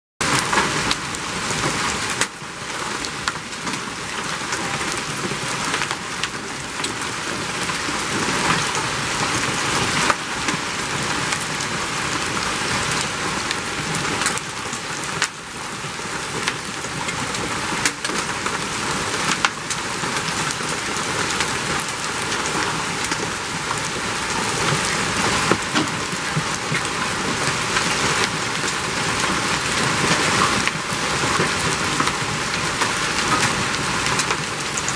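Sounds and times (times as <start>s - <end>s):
hail pelting hard surfaces: 0.2s - 34.9s
heavy rain: 0.2s - 34.9s.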